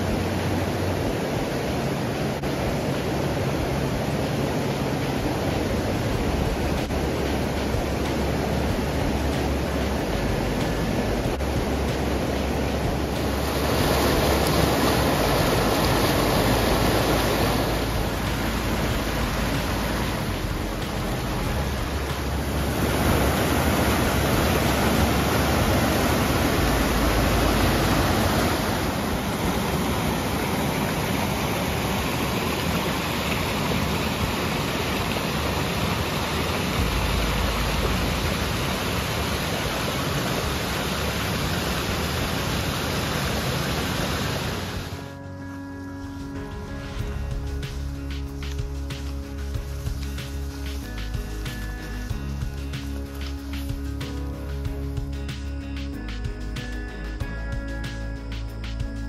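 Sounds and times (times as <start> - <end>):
river rushing through rapids: 0.0 - 56.0.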